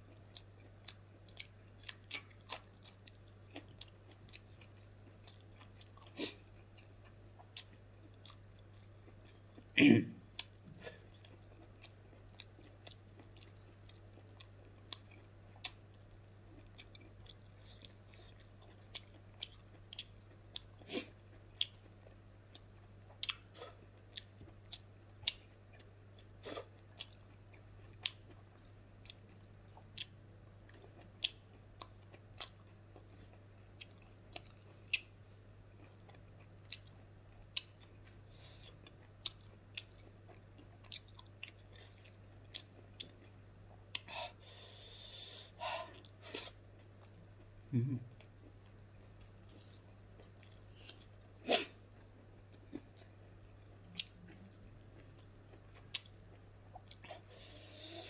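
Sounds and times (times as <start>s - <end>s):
steady low hum: 0.0s - 58.0s
person chewing close to microphone: 0.1s - 9.7s, 10.4s - 35.2s, 35.8s - 44.2s, 48.2s - 58.0s.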